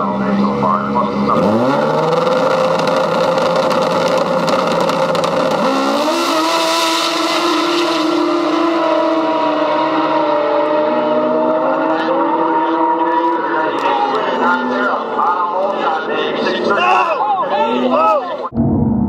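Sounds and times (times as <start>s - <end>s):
snowmobile engine revving: 0.0s - 18.2s.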